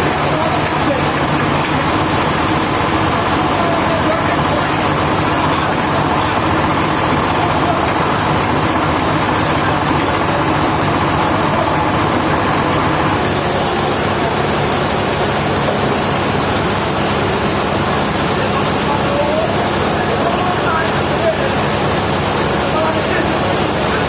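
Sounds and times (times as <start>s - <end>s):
sawmill machinery drone: 0.0s - 24.0s.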